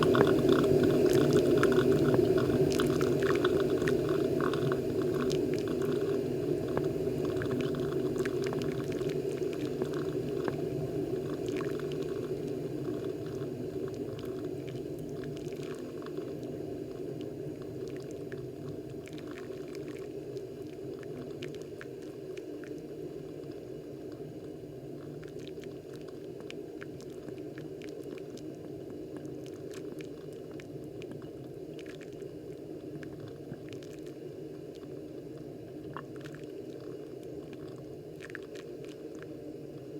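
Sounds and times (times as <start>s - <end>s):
coffee dripping: 0.0s - 39.9s
coffee maker bubbling and gurgling: 0.0s - 39.9s.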